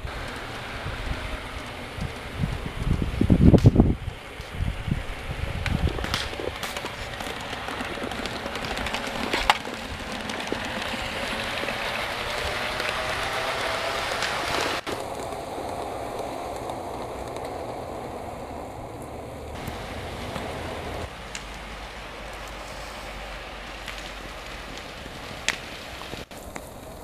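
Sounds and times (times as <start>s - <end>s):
model locomotive motor whine: 0.0s - 24.2s
steady hiss: 0.0s - 27.0s.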